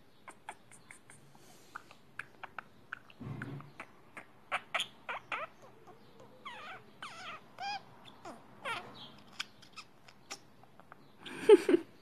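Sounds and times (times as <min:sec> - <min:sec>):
budgerigars chirping: 0:00.1 - 0:11.1.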